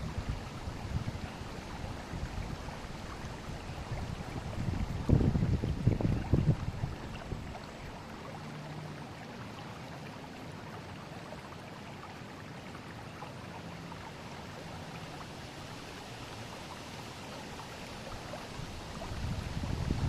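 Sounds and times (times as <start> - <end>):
river rushing with trickles: 0.0 - 20.0.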